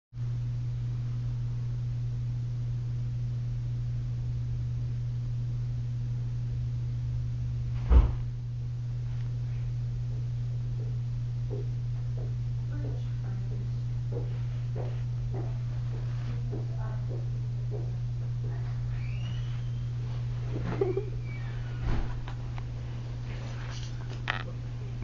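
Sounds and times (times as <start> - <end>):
low hum: 0.2 - 25.0.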